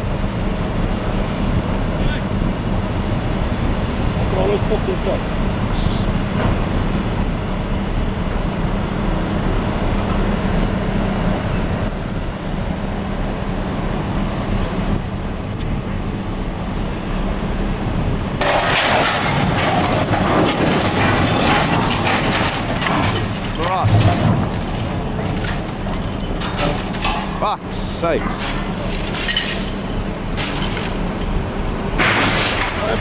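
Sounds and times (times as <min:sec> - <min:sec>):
heavy vehicle engine rumbling: 0:00.0 - 0:33.0.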